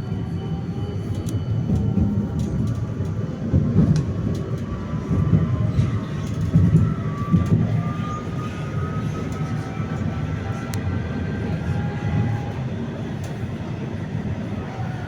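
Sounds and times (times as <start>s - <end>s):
tram wheels rumbling over rails: 0.0s - 15.0s.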